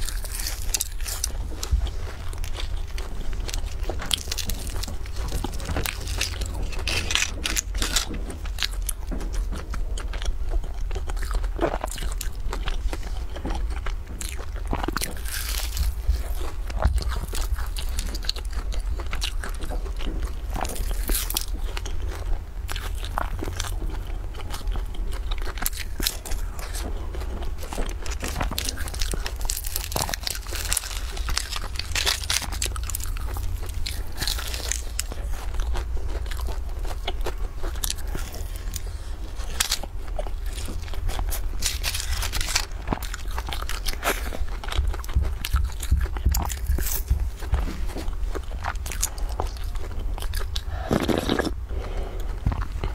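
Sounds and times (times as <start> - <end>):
biting and chewing pastry: 0.0 - 52.9
steady low hum: 0.0 - 52.9.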